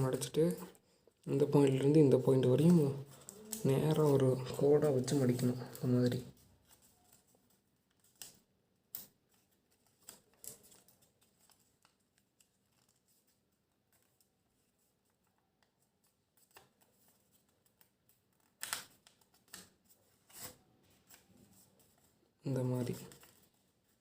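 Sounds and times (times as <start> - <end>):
paper rustling and crinkling: 1.6 - 24.0.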